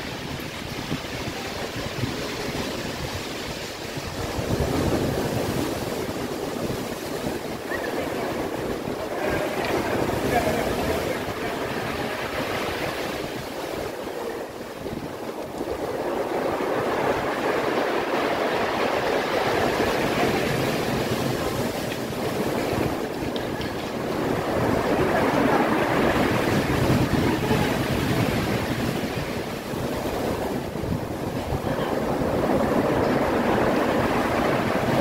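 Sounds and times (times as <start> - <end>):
sea surf washing ashore: 0.0 - 35.0.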